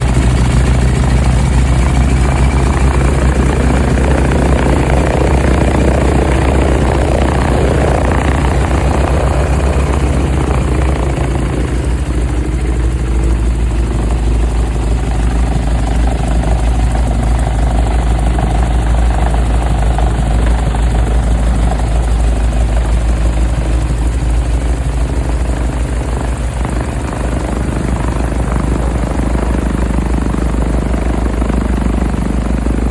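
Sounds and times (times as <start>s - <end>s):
light airplane engine and propeller: 0.0s - 32.9s.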